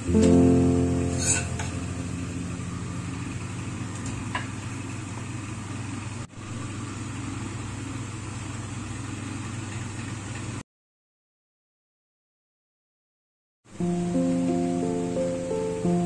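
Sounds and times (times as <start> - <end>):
low mechanical hum: 0.0 - 10.6, 13.7 - 16.0.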